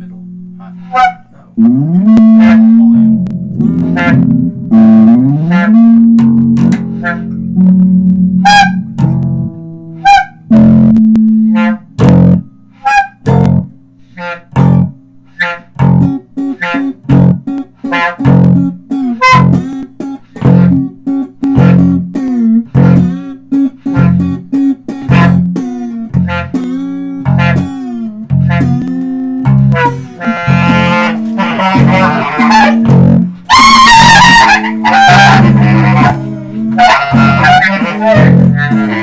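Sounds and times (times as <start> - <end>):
amplified plucked string notes: 0.0 - 39.0.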